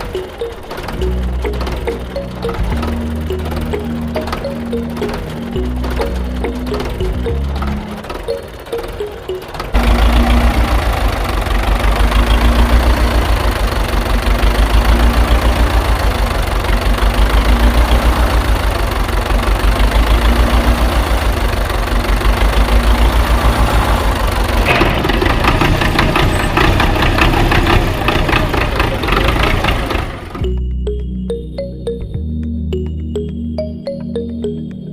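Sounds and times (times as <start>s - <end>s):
engine running with low pulse: 0.0s - 31.2s.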